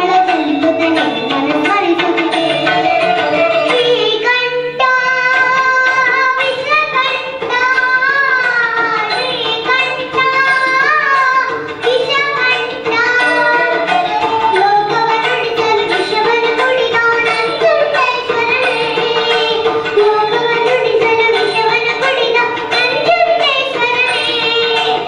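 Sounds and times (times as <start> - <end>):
girl singing into microphone: 0.0 - 25.0
percussion accompaniment: 0.0 - 25.0.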